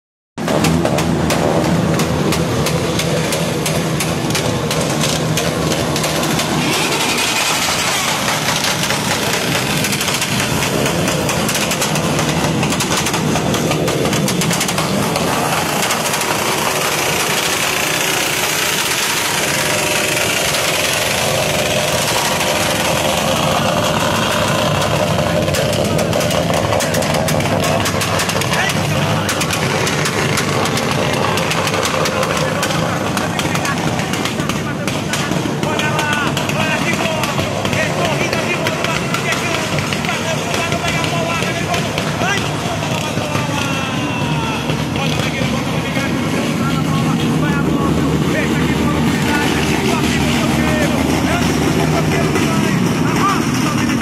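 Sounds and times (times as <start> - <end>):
many motorcycle engines running: 0.4 - 54.0.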